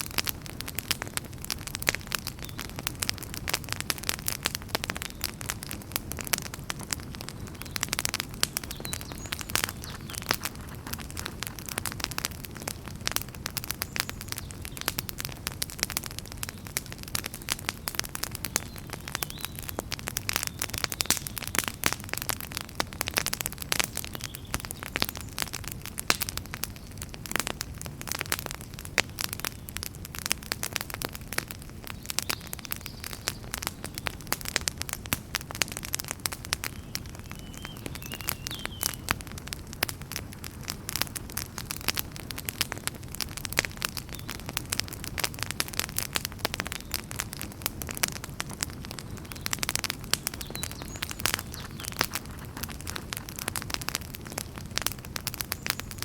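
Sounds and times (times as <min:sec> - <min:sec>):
fireplace fire crackling and popping: 0:00.0 - 0:56.0
low rumble of flames: 0:00.0 - 0:56.0.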